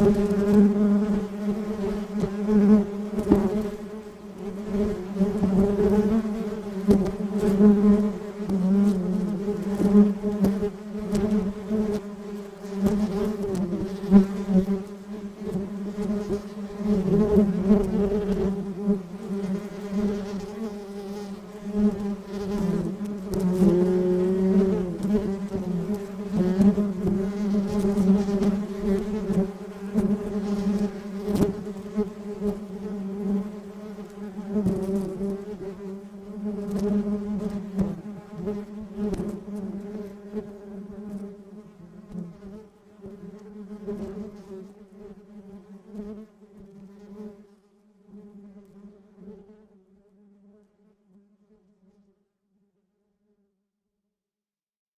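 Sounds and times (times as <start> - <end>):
honey bees buzzing: 0.0 - 46.2.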